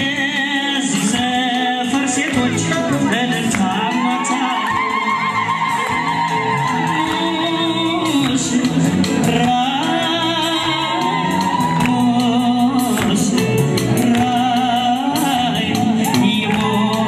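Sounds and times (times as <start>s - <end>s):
wavering singing voice: 0.0s - 17.0s.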